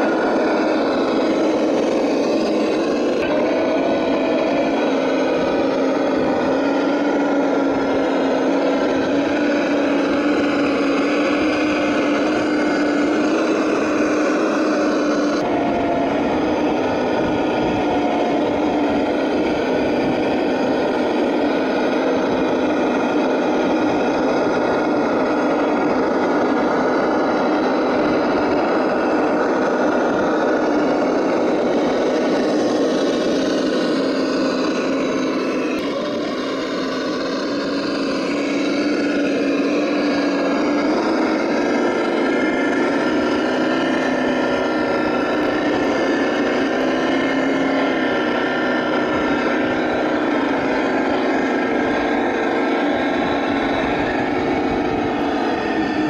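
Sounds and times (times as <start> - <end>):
toy car engine drone: 0.0 - 56.0.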